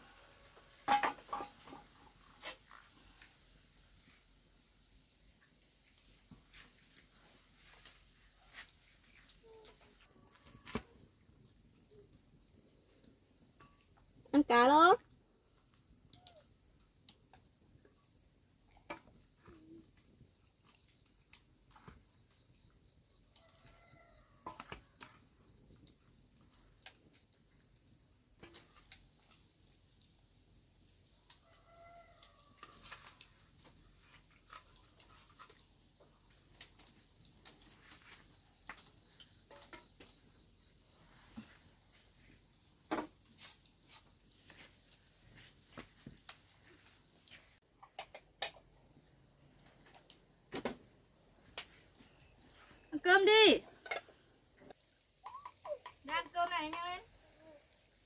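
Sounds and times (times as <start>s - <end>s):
crickets trilling: 0.0s - 58.0s
pulsing insect chirp: 1.4s - 58.0s.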